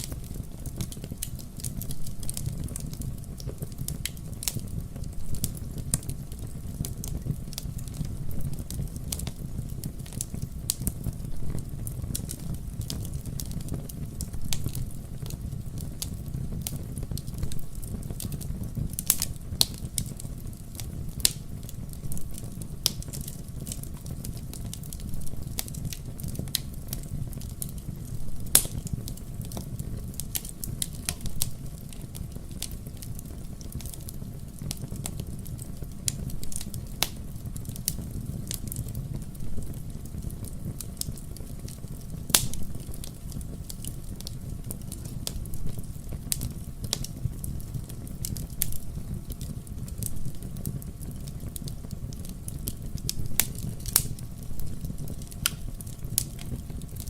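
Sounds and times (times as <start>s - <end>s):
wood fire burning: 0.0s - 57.0s.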